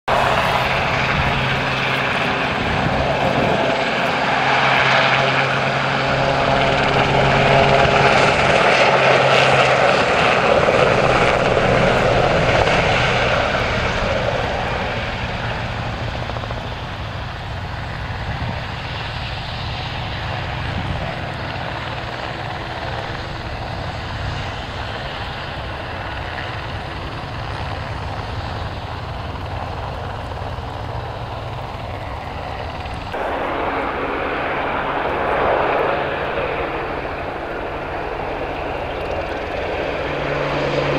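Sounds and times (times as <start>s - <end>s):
helicopter flying past: 0.1s - 40.9s.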